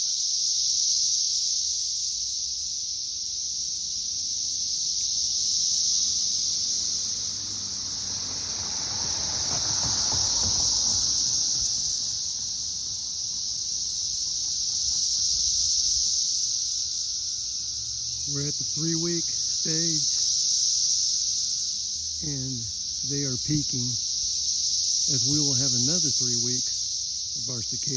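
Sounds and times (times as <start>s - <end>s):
cicadas droning: 0.0s - 27.9s.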